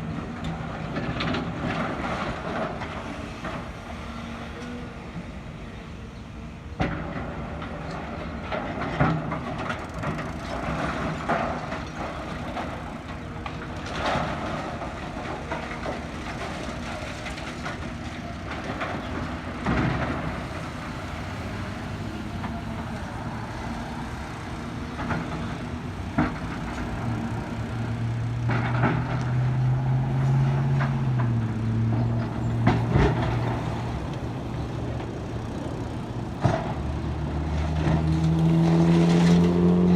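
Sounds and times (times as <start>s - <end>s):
excavator diesel engine running: 0.0s - 38.8s.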